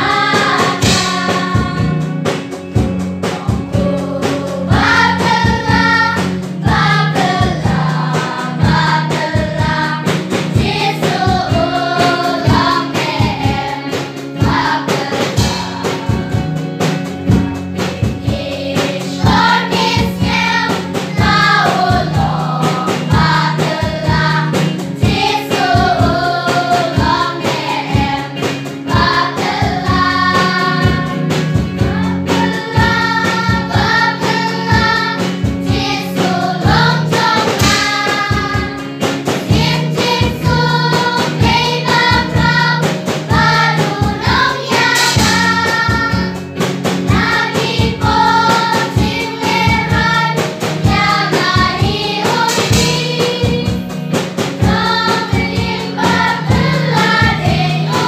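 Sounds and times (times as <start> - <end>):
children's choir singing: 0.0 - 2.2, 3.3 - 16.4, 18.2 - 46.5, 47.1 - 53.9, 54.6 - 58.0
backing music with steady beat: 0.0 - 58.0.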